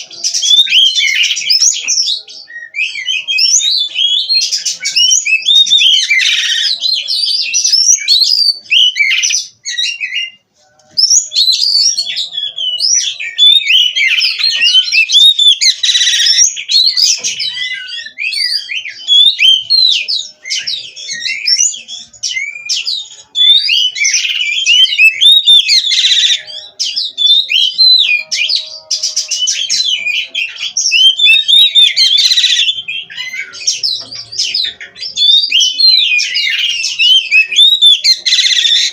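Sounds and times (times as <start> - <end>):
songbird whistles and chirps: 0.0 - 38.9.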